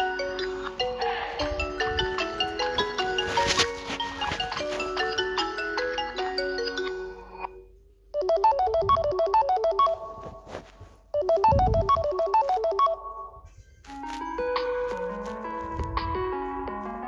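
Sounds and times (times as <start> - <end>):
phone ringtone: 0.0 - 10.5, 11.1 - 17.0.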